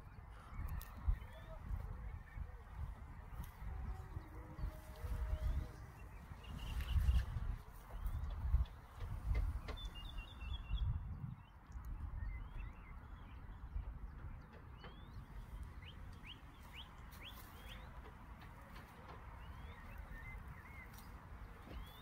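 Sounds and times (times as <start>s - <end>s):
low rumbling on microphone: 0.0s - 22.0s
wild birds chirping: 0.0s - 22.0s.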